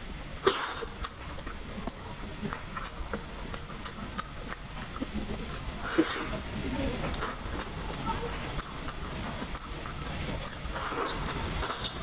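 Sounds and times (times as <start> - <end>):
person chewing with lip smacks: 0.4 - 12.0.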